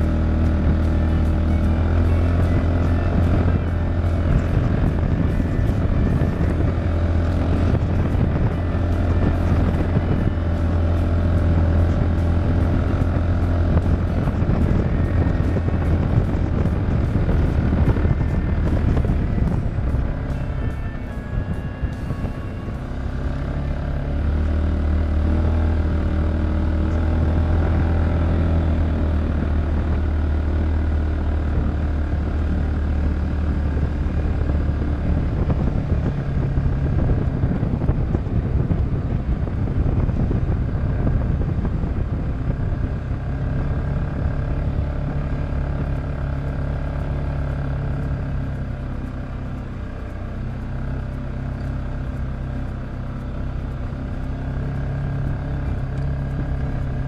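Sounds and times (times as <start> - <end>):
single-cylinder engine running: 0.0 - 57.0.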